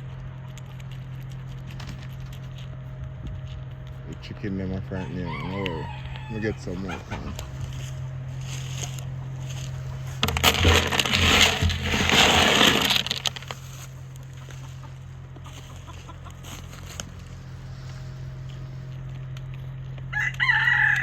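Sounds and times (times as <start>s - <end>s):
chicken feed rustling and crunching: 0.0s - 21.0s.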